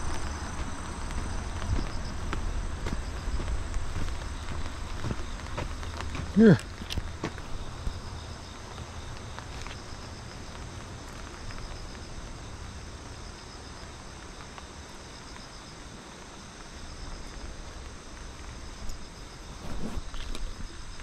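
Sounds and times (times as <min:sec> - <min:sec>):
wind rumble on microphone: 0:00.0 - 0:13.9, 0:17.2 - 0:21.0
insects chirping: 0:00.0 - 0:21.0.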